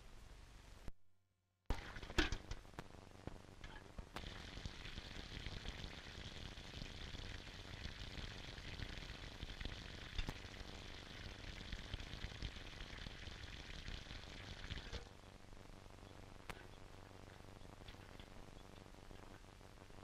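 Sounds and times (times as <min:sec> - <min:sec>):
film soundtrack hiss and crackle: 0:00.0 - 0:00.9, 0:01.7 - 0:20.0.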